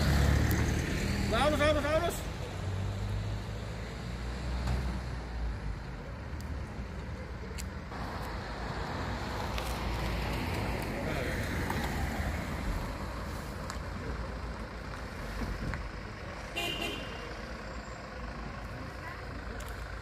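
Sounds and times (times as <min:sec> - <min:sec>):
road noise rushing: 0:00.0 - 0:20.0
vehicle engine humming: 0:00.0 - 0:20.0.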